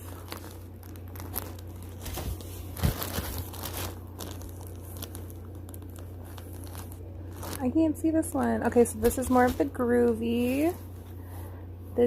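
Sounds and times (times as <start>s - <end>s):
packaging crinkling and rustling: 0.0s - 11.3s
steady low hum: 0.0s - 12.0s.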